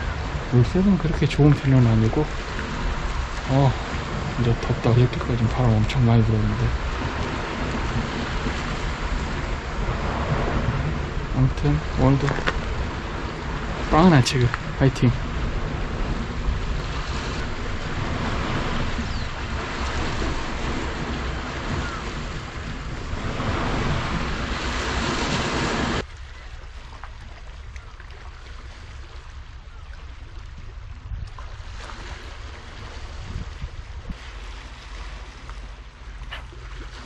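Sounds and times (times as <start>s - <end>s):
waves washing against a seawall: 0.0s - 37.0s
wind buffeting the microphone: 0.0s - 37.0s.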